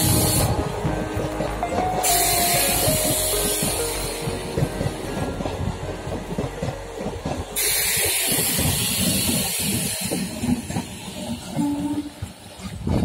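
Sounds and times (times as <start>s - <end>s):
low train rumble: 0.0s - 13.0s
train wheels clattering over joints: 0.0s - 13.0s.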